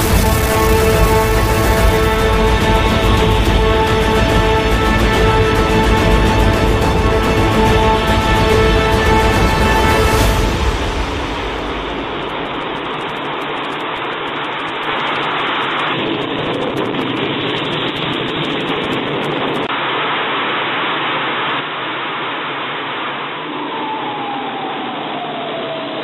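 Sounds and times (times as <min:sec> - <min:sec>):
engine running with rushing noise: 0:00.0 - 0:26.0.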